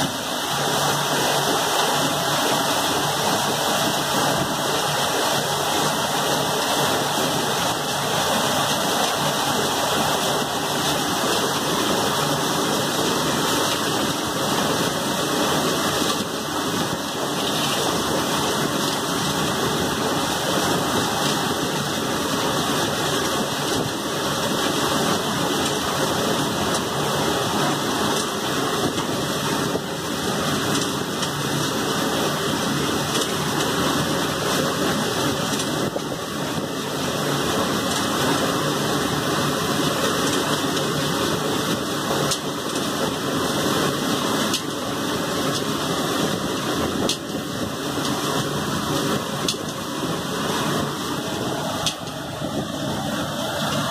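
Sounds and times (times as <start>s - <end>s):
dishwasher water spraying: 0.0s - 53.9s.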